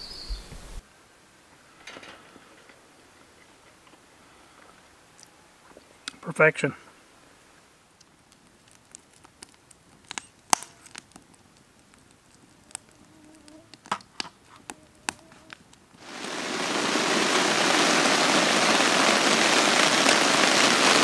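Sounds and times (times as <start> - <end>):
rain hissing on a tent: 0.0 - 21.0
campfire crackling and popping: 2.4 - 21.0.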